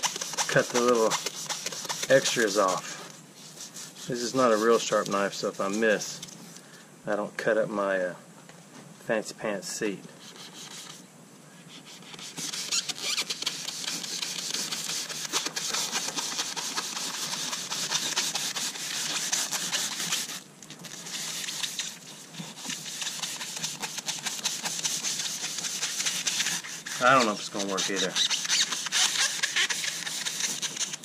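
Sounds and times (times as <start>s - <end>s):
knife sawing through foam: 0.0s - 6.0s, 11.7s - 31.0s.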